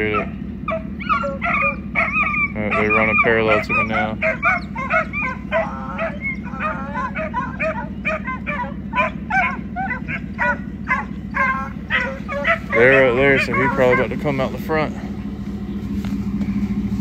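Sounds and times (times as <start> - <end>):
hounds baying: 0.0 - 17.0
steady low hum: 0.0 - 17.0.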